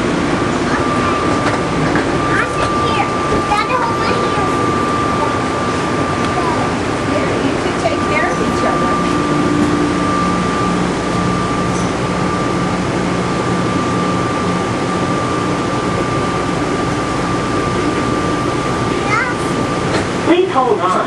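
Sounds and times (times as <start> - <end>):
high whine: 0.0 - 21.0
train car mechanical hum: 0.0 - 21.0.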